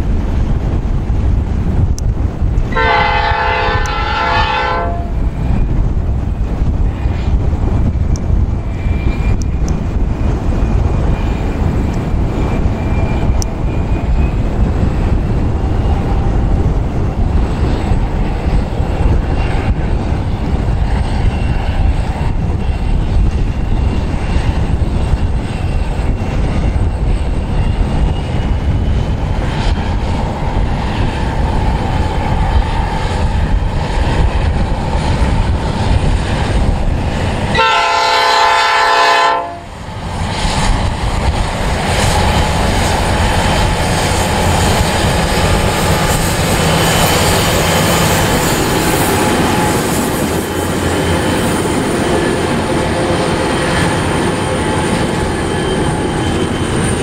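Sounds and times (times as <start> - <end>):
distant locomotive drone: 0.0 - 57.0
wind buffeting microphone: 0.0 - 57.0.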